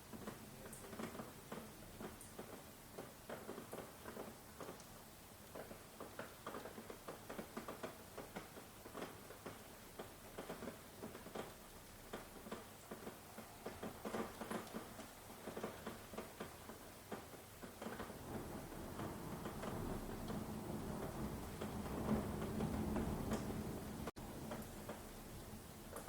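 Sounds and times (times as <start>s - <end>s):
rain drops on hard surface: 0.0s - 26.0s
rain hiss: 0.0s - 26.0s.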